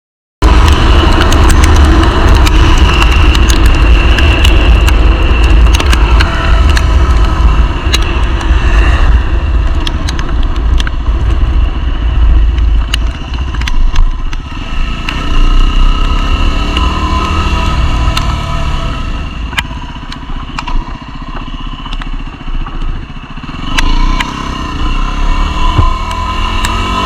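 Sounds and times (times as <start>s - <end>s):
sharp ticks: 0.4s - 26.9s
motorcycle engine running: 0.4s - 27.0s
wind rumble on microphone: 0.4s - 27.0s.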